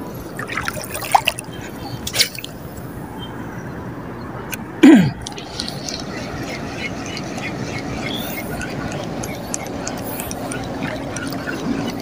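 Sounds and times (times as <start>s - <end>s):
seawater lapping and dripping: 0.0s - 3.2s, 5.2s - 12.0s.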